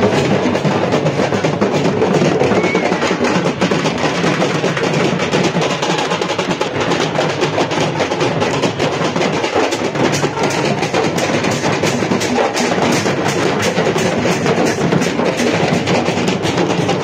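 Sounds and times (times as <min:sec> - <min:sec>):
rapid dense drumming music: 0:00.0 - 0:17.0.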